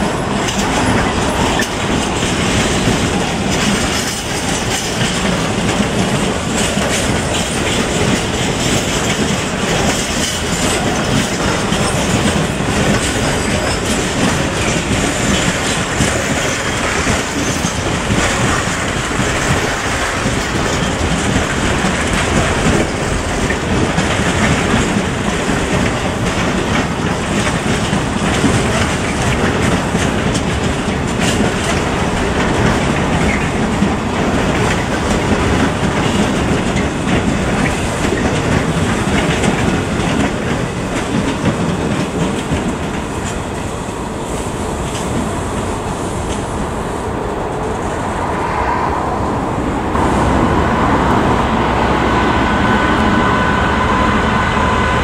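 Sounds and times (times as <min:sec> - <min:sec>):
wheels clicking over rail joints: 0:00.0 - 0:46.7
freight train rumbling past: 0:00.0 - 0:55.0.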